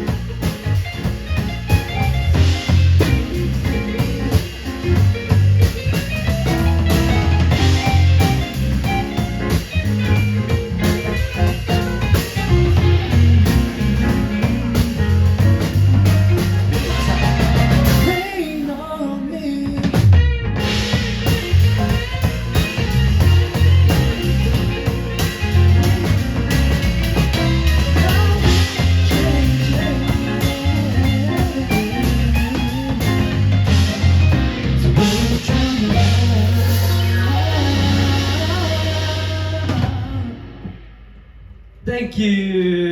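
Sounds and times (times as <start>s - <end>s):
live pop-rock band: 0.0s - 41.7s.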